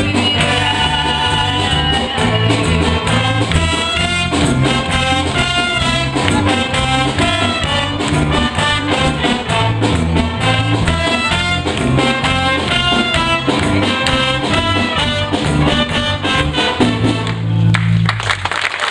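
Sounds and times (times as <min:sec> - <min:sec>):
wind band with brass playing: 0:00.0 - 0:17.8.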